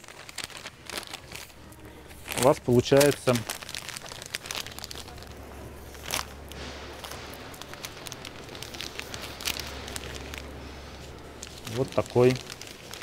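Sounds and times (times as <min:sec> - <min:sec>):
low steady hum: 0:00.0 - 0:13.0
plastic film crinkling: 0:00.0 - 0:13.0.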